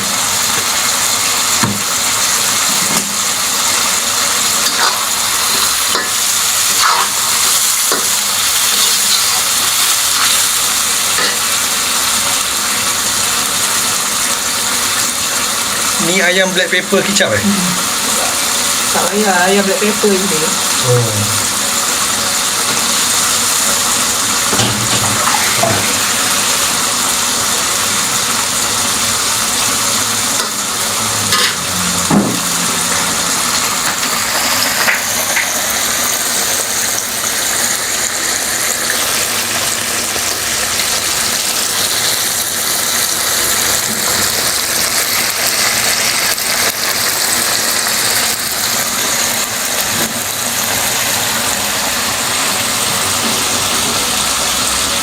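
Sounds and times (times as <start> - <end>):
chicken sizzling in a pan: 0.0 - 55.0.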